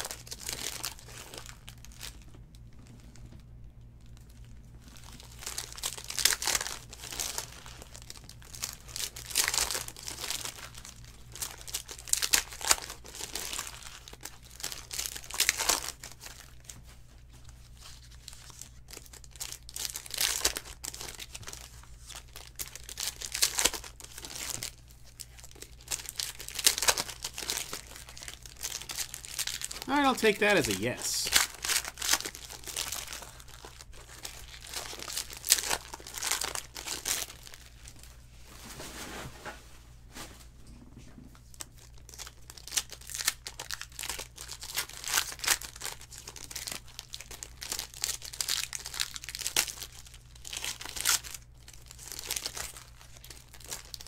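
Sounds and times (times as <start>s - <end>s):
foil wrappers crinkling: 4.1s - 16.8s, 17.4s - 38.1s, 41.6s - 54.0s.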